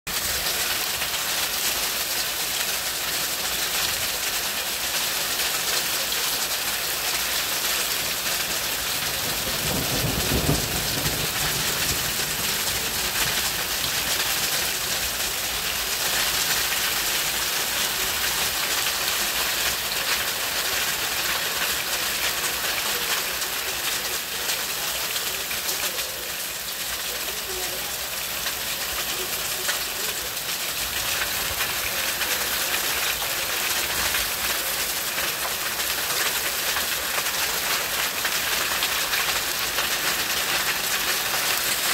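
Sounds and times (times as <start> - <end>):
hail pattering on roof: 0.1 - 41.9.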